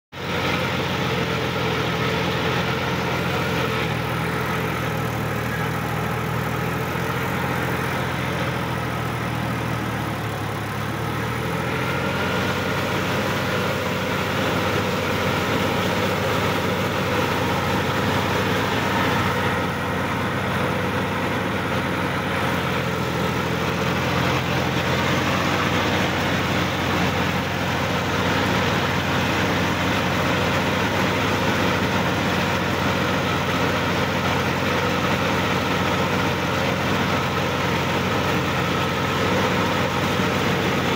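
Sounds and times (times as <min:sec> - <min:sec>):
tractor diesel engine running: 0:00.1 - 0:40.9.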